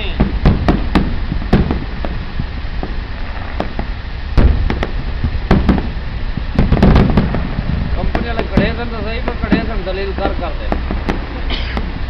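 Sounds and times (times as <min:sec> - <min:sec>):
fireworks bursting: 0:00.0 - 0:12.0
low rumble: 0:00.0 - 0:12.0.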